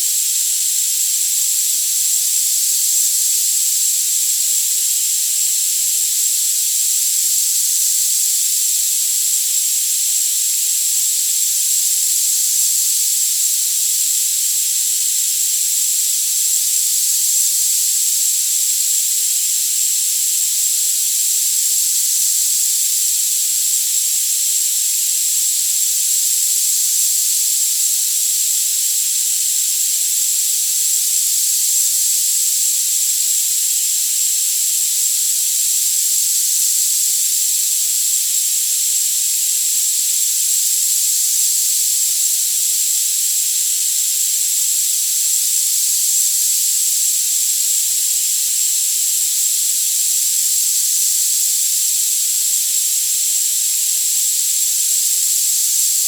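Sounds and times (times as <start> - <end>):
steady even hiss: 0.0 - 56.0.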